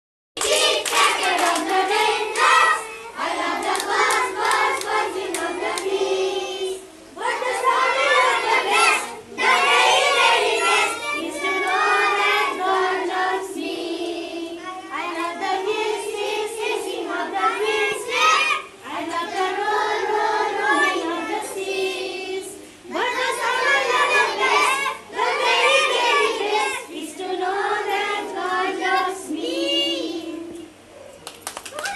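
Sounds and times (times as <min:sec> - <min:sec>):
young children singing: 0:00.4 - 0:30.8.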